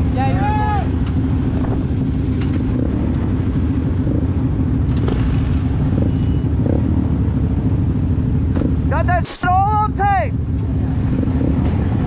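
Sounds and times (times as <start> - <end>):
motorcycle engine rumble: 0.0 - 12.0
wind and road noise: 0.0 - 12.0.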